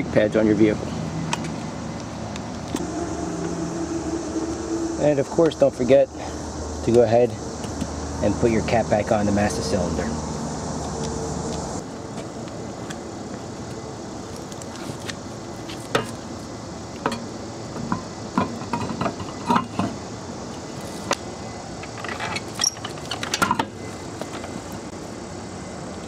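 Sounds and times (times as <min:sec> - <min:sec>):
steady outdoor hum: 0:00.0 - 0:26.0.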